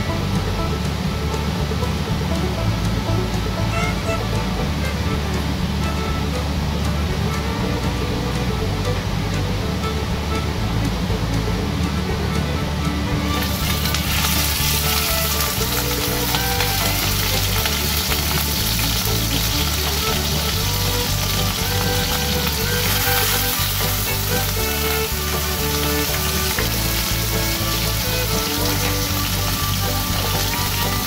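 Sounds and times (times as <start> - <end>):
background music: 0.0 - 31.0.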